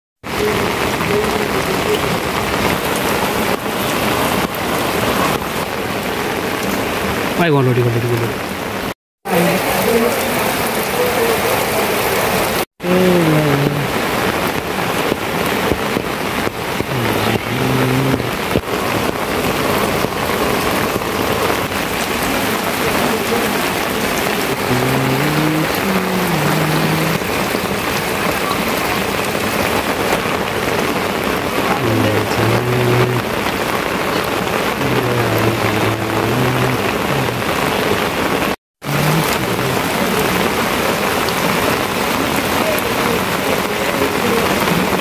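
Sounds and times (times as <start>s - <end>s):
heavy rain falling: 0.2s - 45.0s.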